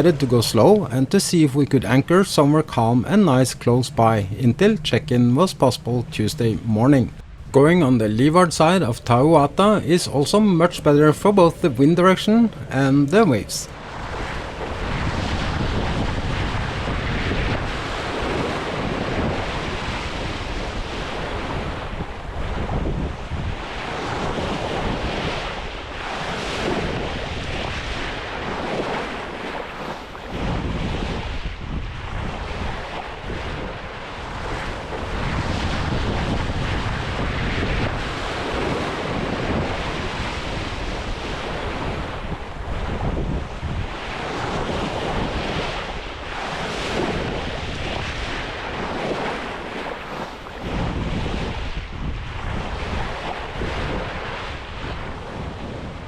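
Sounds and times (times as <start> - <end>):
waves rushing around a boat: 0.0 - 56.0
wind buffeting microphone: 0.0 - 56.0.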